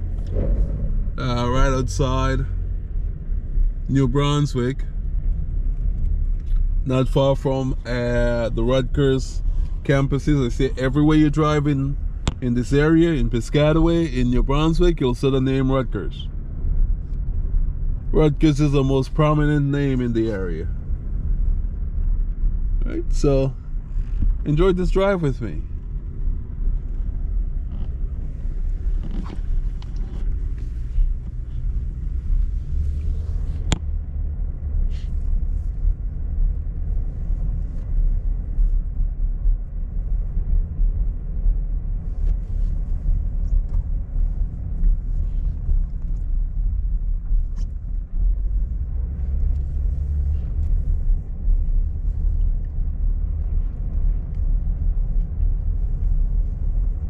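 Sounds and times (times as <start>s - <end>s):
car driving slowly rumble: 0.0s - 57.0s.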